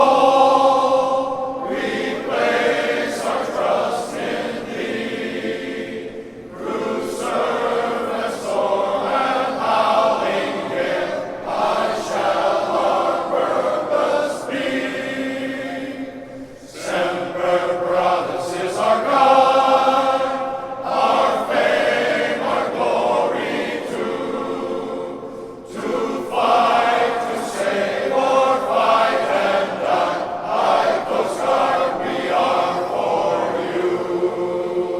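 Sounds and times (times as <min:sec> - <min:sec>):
men's choir singing: 0:00.0 - 0:34.9.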